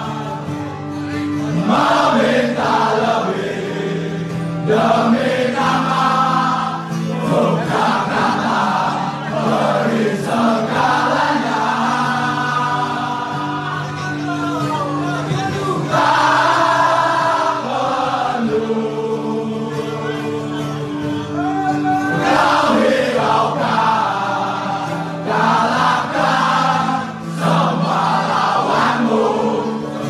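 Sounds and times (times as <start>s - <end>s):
crowd singing a chant: 0.0s - 14.1s, 15.2s - 21.4s, 22.1s - 30.0s.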